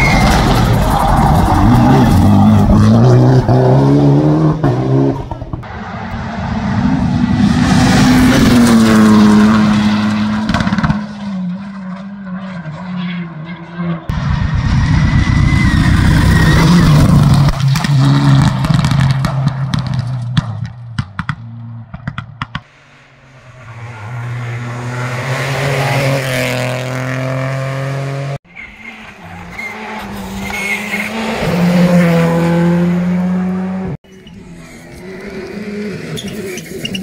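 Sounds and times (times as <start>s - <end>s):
rally car engines at full throttle: 0.0s - 37.0s.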